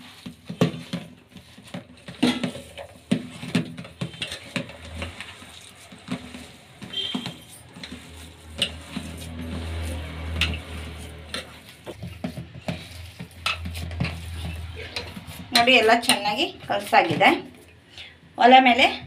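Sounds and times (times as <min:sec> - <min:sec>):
hand squishing wet mix: 0:00.0 - 0:17.9.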